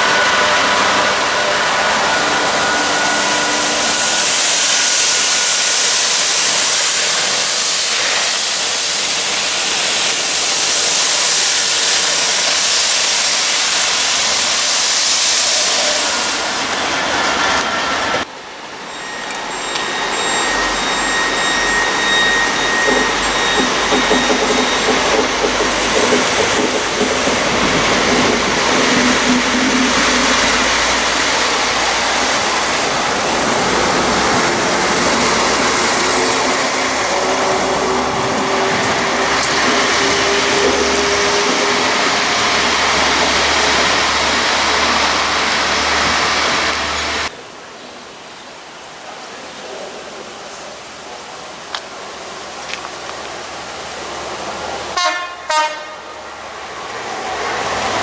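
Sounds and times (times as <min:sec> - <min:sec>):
train passing close by: 0:00.0 - 0:58.0.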